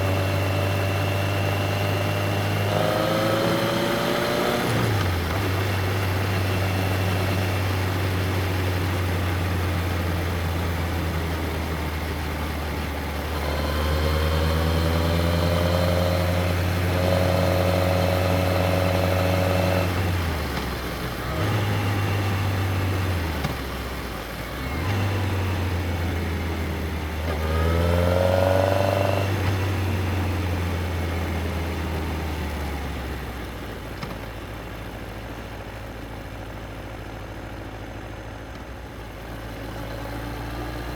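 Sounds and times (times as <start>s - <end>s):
motorcycle engine revving: 0.0s - 35.8s.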